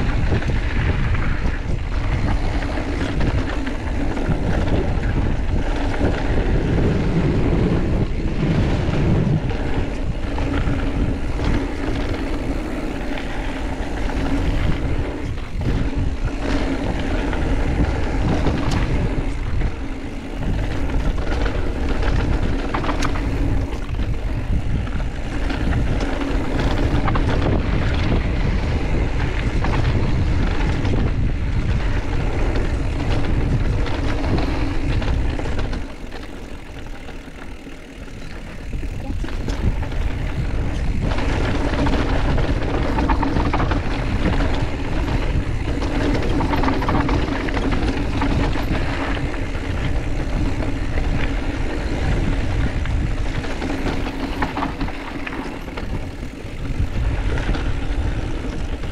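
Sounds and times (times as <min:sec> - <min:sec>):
mountain bike rumble and rattle: 0:00.0 - 0:58.9
wind buffeting microphone: 0:00.0 - 0:58.9.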